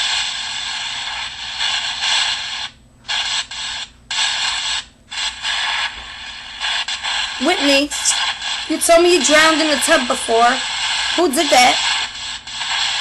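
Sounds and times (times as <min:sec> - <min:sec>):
white noise static hiss: 0:00.0 - 0:13.0.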